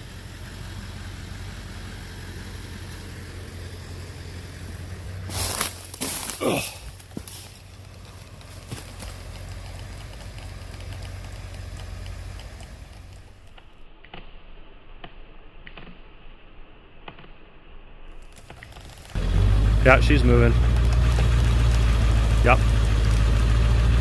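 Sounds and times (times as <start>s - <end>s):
truck engine rumbling: 0.0s - 13.8s, 18.2s - 24.0s.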